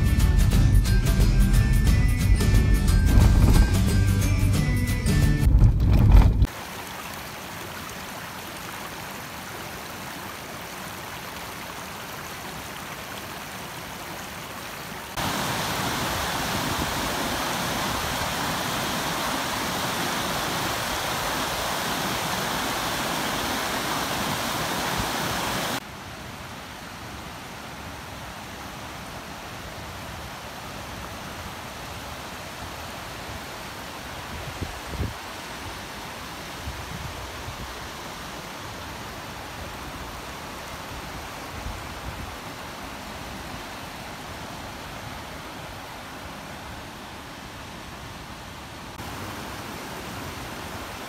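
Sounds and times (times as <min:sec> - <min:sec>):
flowing water rushing: 0:06.4 - 0:51.0.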